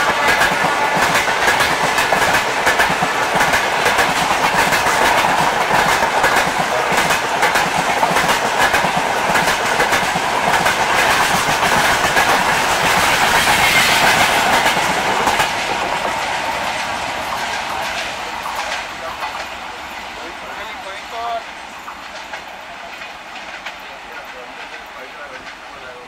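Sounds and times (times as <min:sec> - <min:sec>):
train wheels clattering over rail joints: 0:00.0 - 0:26.0.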